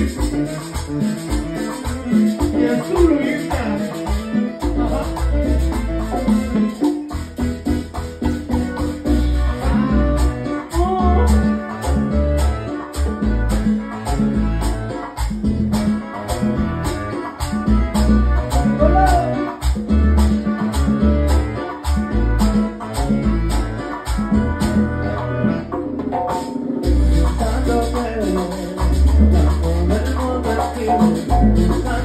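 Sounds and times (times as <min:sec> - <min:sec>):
high ticking percussion: 0:00.0 - 0:24.8, 0:25.8 - 0:32.0
congas: 0:00.0 - 0:32.0
pulsing bass line: 0:00.0 - 0:32.0
salsa band playing: 0:00.0 - 0:32.0.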